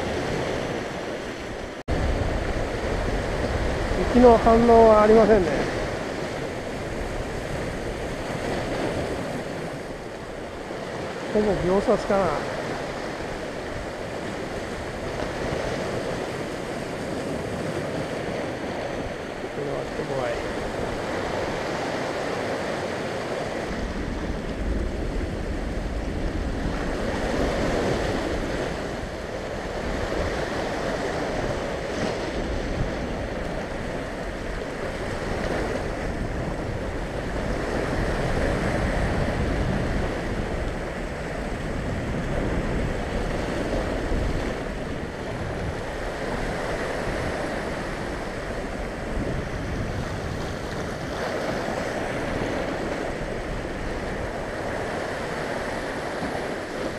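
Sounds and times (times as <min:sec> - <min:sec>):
waves breaking on rocks: 0:00.0 - 0:56.9
wind rumbling on microphone: 0:00.0 - 0:56.9.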